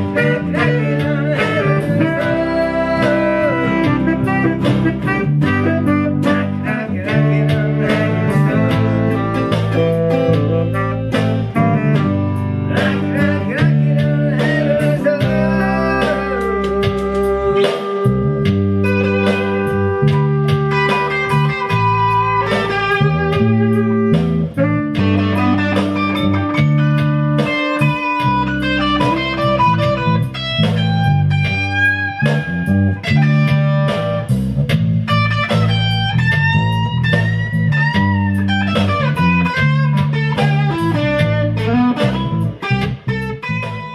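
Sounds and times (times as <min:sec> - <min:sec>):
tenor saxophone: 0:00.0 - 0:34.4, 0:35.1 - 0:43.9
electric bass line: 0:00.0 - 0:43.9
electric guitar: 0:00.0 - 0:43.9.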